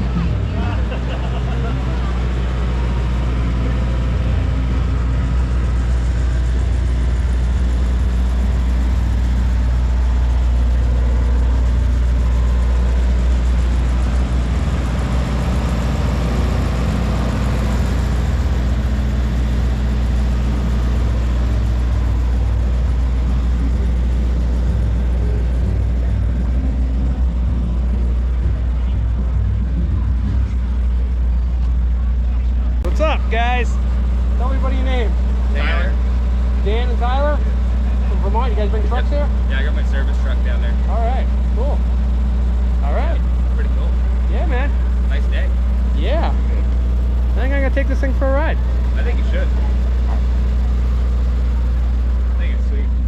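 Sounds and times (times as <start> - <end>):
heavy engine idling: 0.0 - 53.0.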